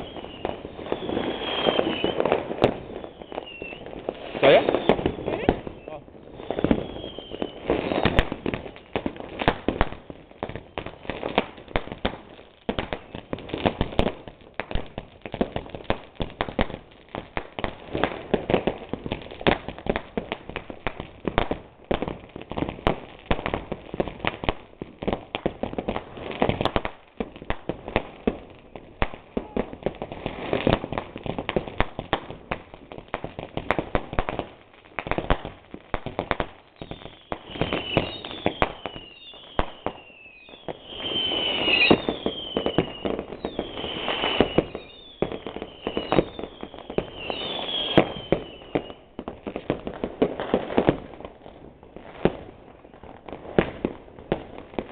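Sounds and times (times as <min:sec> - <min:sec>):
firecrackers banging and crackling: 0:00.0 - 0:54.9.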